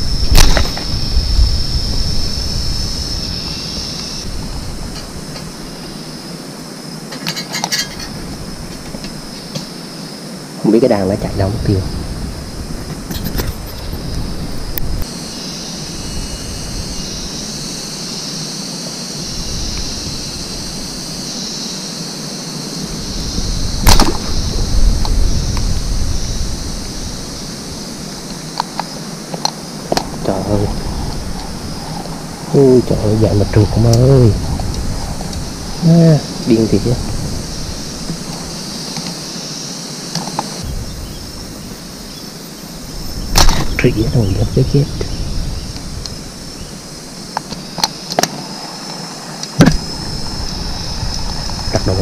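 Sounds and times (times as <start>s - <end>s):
high-pitched insect buzz: 0.0s - 52.0s
steady high hiss: 0.0s - 52.0s
wind and handling rumble: 0.0s - 52.0s.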